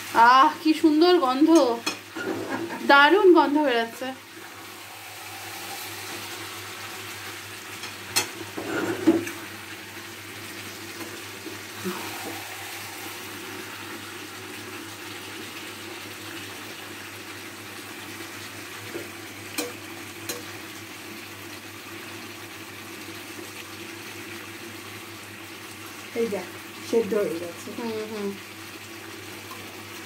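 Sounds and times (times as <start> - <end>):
curry sizzling in pan: 0.0 - 30.0.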